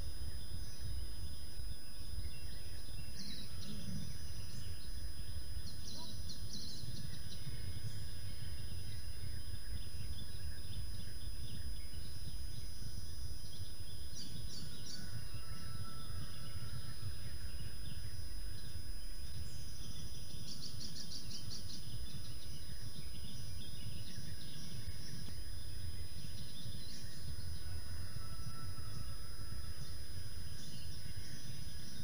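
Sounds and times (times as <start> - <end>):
small birds singing: 0.0 - 32.0.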